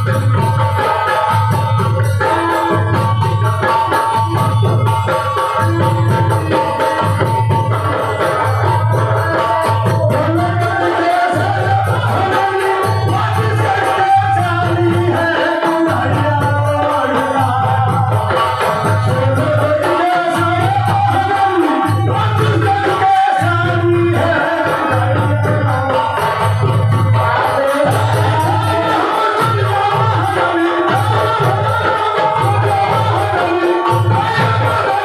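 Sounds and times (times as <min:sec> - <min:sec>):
jingling percussion: 0:00.0 - 0:35.0.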